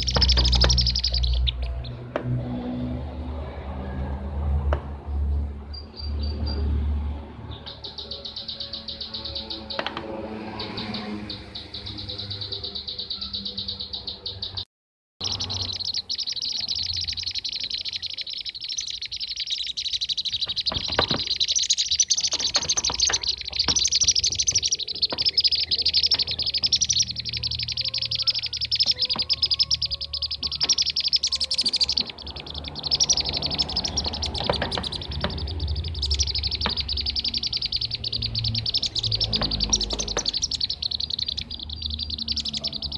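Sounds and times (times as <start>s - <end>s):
bee-eaters chattering trills: 0.0s - 2.1s, 7.5s - 14.6s, 15.2s - 42.9s.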